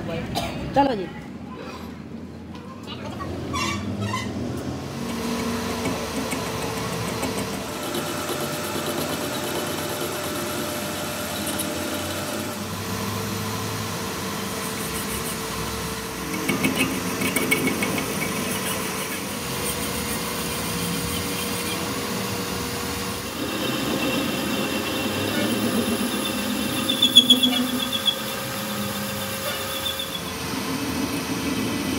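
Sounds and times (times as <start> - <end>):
metal lathe cutting steel: 4.9 - 31.9.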